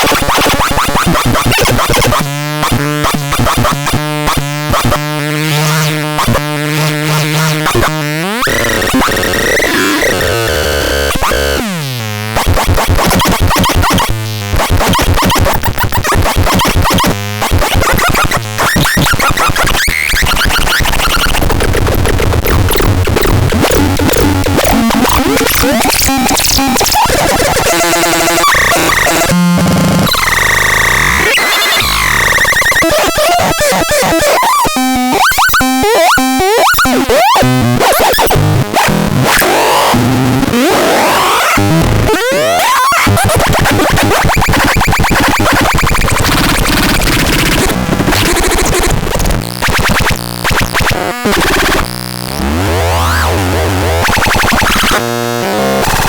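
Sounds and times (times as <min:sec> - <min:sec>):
harsh synthesizer tones: 0:00.0 - 0:56.0.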